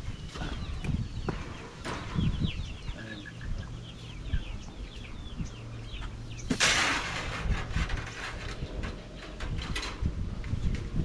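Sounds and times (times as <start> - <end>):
chickens clucking: 0.0 - 9.6.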